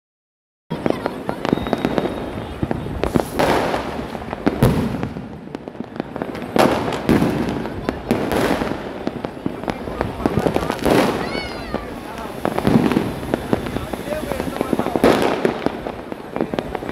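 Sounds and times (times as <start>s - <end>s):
firecrackers banging and popping: 0.7s - 16.9s.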